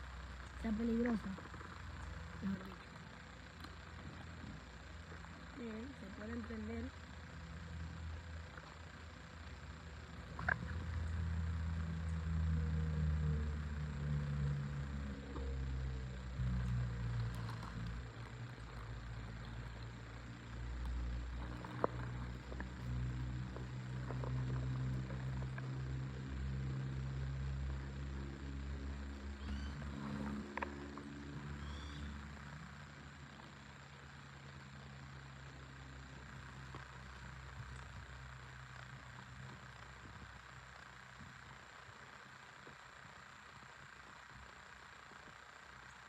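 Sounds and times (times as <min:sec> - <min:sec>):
vehicle engine droning: 0:00.0 - 0:45.2.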